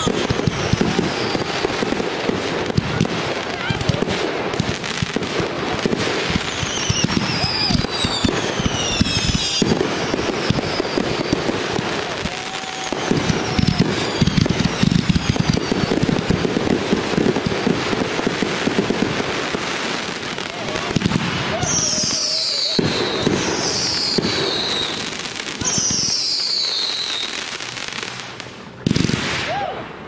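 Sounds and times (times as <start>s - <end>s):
fireworks whistles: 0.0s - 29.7s
fireworks bursting and crackling: 0.0s - 30.0s.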